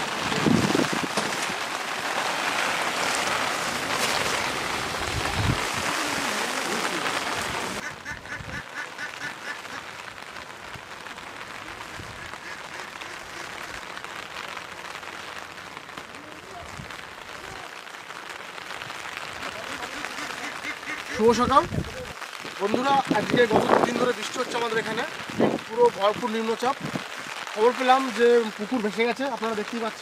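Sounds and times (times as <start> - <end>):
floodwater rushing over ground: 0.0 - 30.0
rain pattering: 0.0 - 30.0.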